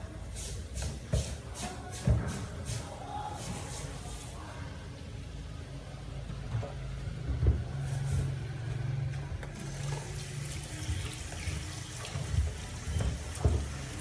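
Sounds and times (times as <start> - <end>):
water boiling in pot: 0.2 - 14.0.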